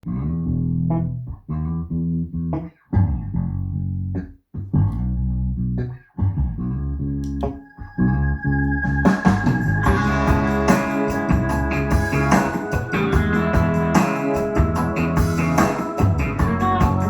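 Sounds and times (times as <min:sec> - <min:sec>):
music with heavy bass and plucked strings: 0:00.0 - 0:17.0.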